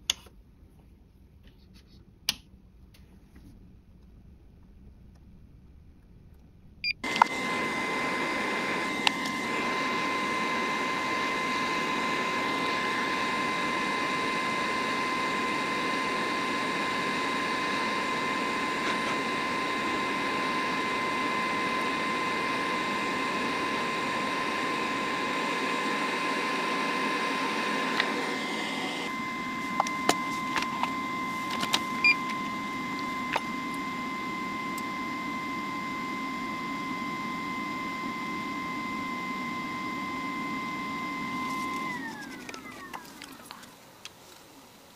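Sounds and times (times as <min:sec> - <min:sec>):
hot-air station blowing: 0:07.0 - 0:43.8.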